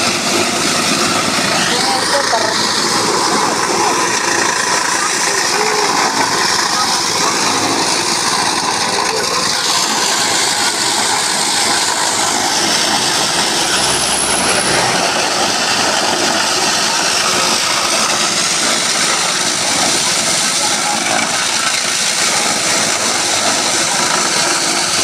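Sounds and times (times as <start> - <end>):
corn grinding machine running: 0.0 - 25.0.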